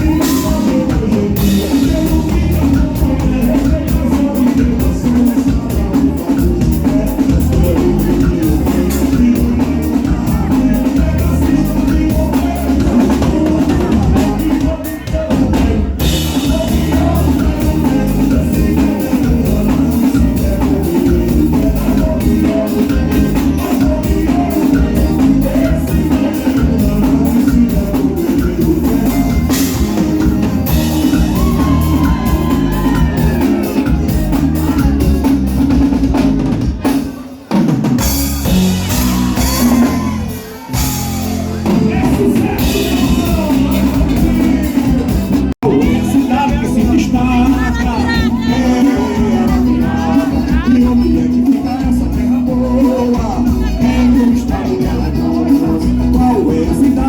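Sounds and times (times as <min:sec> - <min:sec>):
drum kit steady beat: 0:00.0 - 0:57.0
loud folk dance music: 0:00.0 - 0:57.0.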